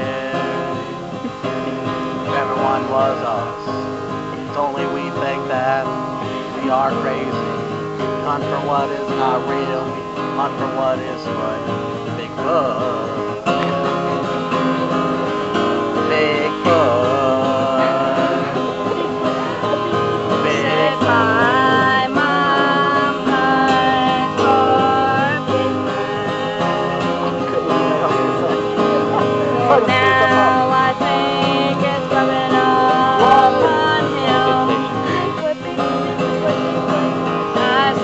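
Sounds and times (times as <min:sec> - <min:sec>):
acoustic guitar strumming: 0:00.0 - 0:38.0
man singing: 0:00.0 - 0:38.0.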